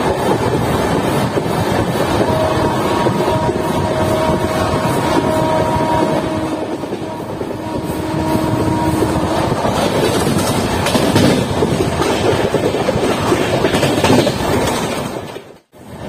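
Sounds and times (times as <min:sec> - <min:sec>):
wind rushing: 0:00.0 - 0:14.7
train wheels clattering: 0:00.0 - 0:15.7.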